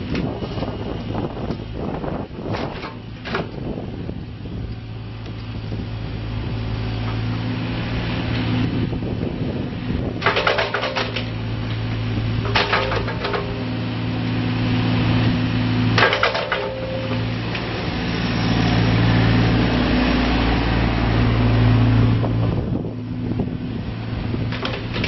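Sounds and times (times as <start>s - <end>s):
excavator diesel engine: 0.0s - 25.0s.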